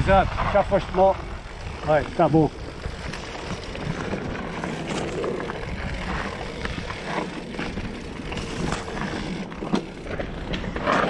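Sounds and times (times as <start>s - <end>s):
wind buffeting microphone: 0.0s - 10.8s
bike tyres rushing on dirt: 0.0s - 11.0s
bike knocking and rattling: 0.5s - 11.0s.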